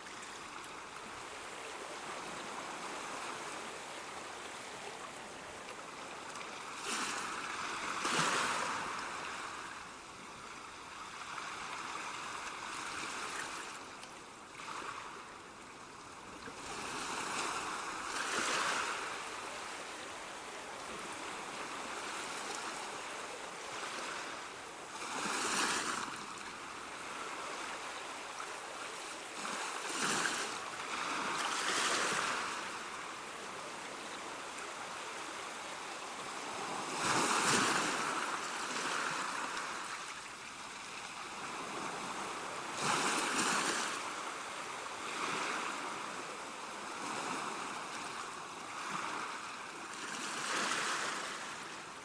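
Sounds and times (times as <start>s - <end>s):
ocean waves breaking: 0.0s - 13.8s, 16.5s - 52.0s
surf hiss: 0.0s - 52.0s.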